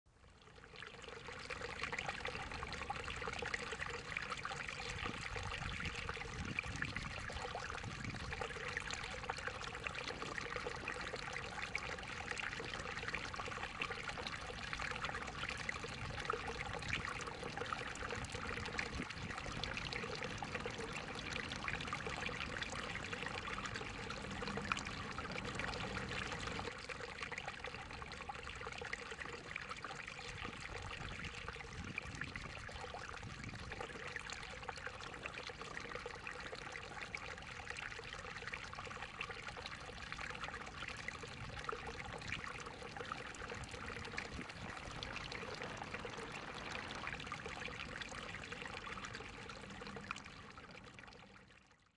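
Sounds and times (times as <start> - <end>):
shallow water trickling: 0.1 - 51.9.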